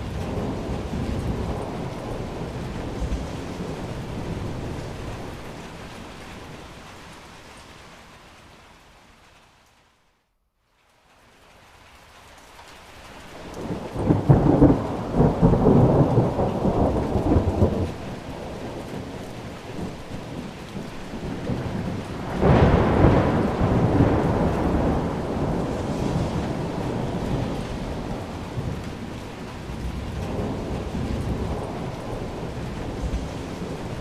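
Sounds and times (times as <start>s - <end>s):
thunder rolling: 0.0s - 7.0s, 13.4s - 34.0s
steady rain: 0.0s - 34.0s.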